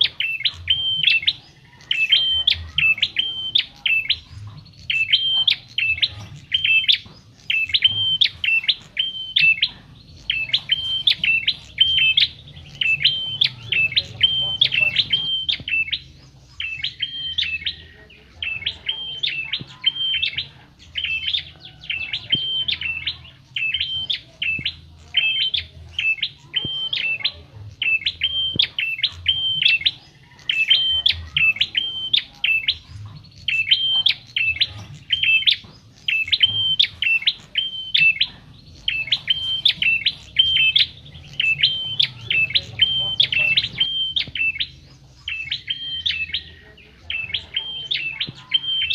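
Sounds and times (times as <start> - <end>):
songbird chirping: 0.0 - 48.9.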